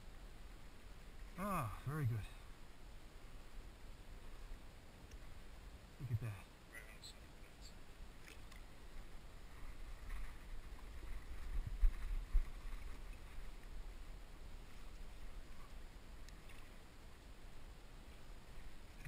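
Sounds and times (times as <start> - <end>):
faint water sounds: 0.0 - 19.0.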